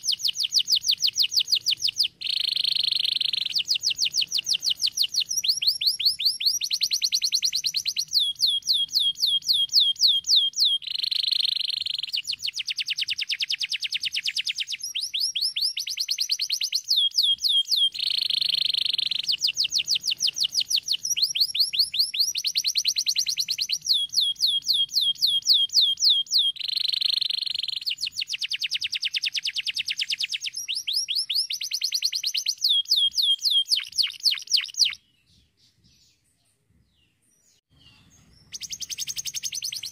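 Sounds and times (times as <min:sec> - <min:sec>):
canary singing trills: 0:00.0 - 0:36.2, 0:37.0 - 0:39.9.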